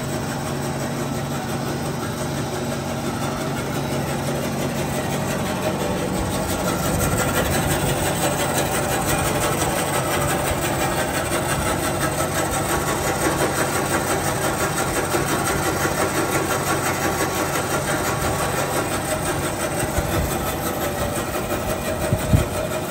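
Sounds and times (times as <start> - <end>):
band saw running: 0.0 - 22.9.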